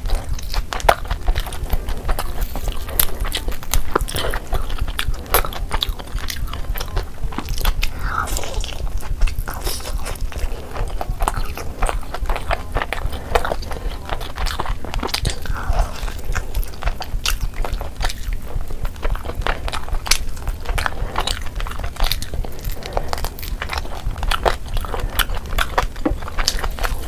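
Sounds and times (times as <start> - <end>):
person chewing chicken: 0.0 - 27.0.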